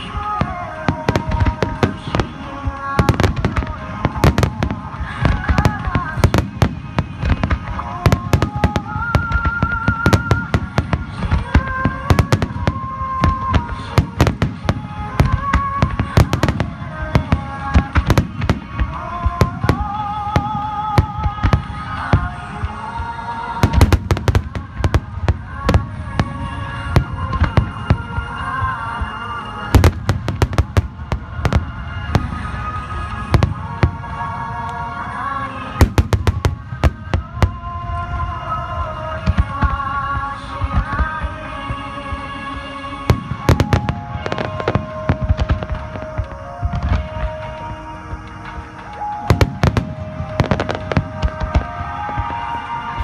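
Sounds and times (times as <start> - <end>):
fireworks bursting with sharp bangs: 0.0 - 53.0
music with sustained melody: 0.0 - 53.0.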